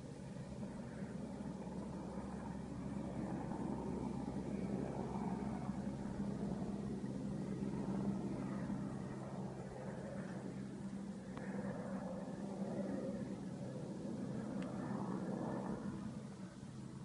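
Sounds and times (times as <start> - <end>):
distant helicopter drone: 0.0 - 17.0.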